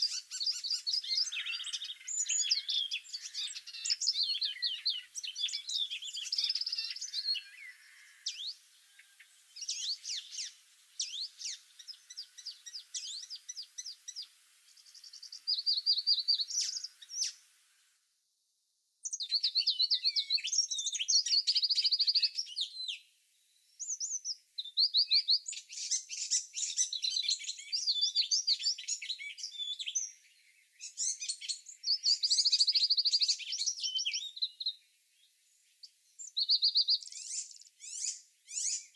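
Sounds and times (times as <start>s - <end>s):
songbirds chirping and trilling: 0.0s - 18.0s, 19.0s - 38.9s.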